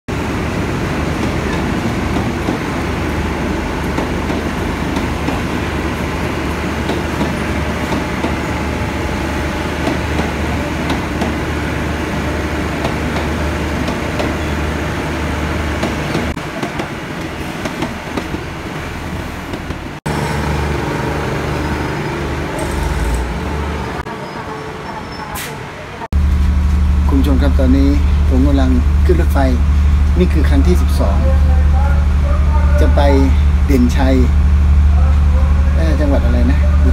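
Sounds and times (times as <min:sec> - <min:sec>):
diesel train engine drone: 0:00.1 - 0:36.9.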